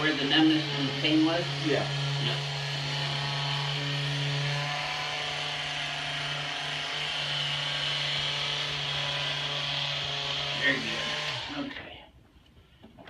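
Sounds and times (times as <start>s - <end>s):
vibration massager humming: 0.0s - 11.6s.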